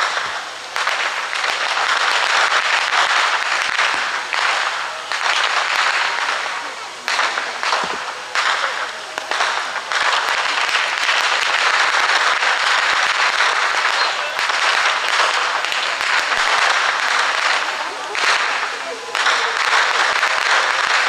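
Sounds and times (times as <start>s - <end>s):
fireworks hissing and crackling: 0.0s - 21.0s.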